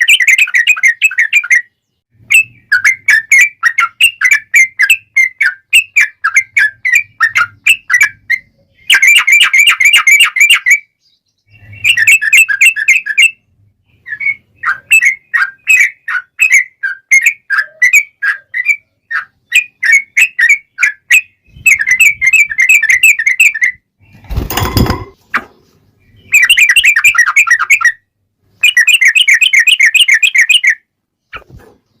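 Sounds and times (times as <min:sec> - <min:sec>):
bird singing with rolling trills: 0:00.0 - 0:32.0.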